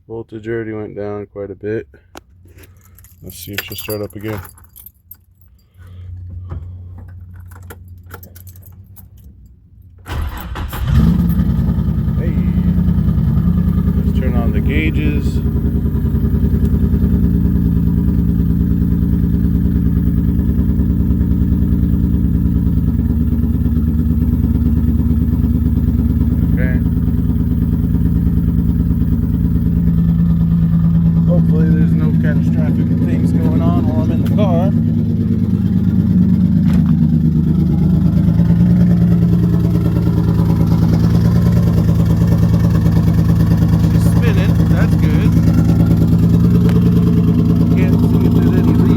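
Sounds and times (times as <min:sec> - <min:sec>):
car engine idling: 0:02.2 - 0:48.9.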